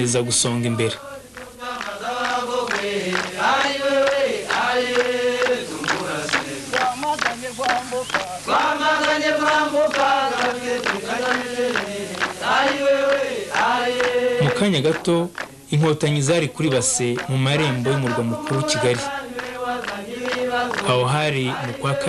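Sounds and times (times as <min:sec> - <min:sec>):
men chanting: 0:00.0 - 0:15.1, 0:16.1 - 0:22.0.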